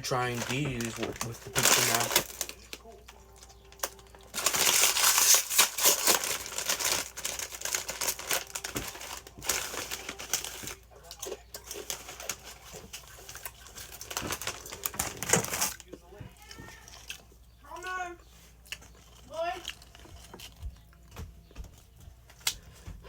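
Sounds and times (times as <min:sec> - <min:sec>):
food crinkling and eating: 0:00.0 - 0:23.0.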